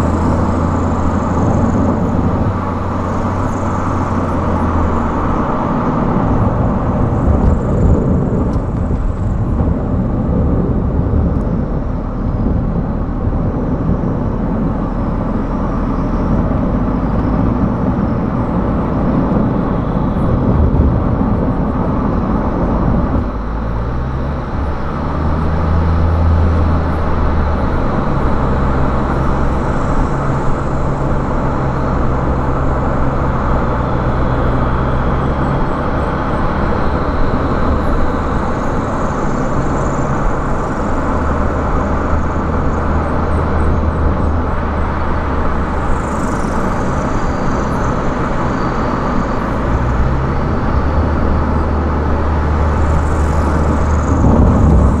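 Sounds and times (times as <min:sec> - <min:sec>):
car engine hum: 0:00.0 - 0:55.0
tyre road noise: 0:00.0 - 0:55.0.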